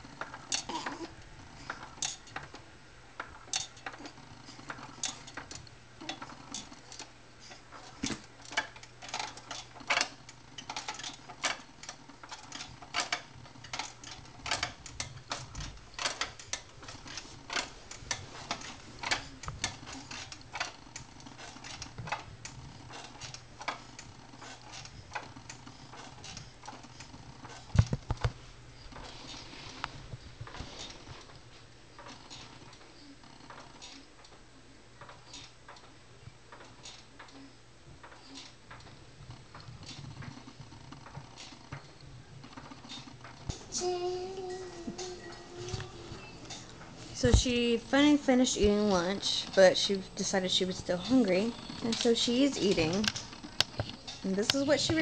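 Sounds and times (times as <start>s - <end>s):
faint motor hum: 0.0s - 55.0s
baby swing ticking: 3.2s - 29.9s, 36.6s - 55.0s.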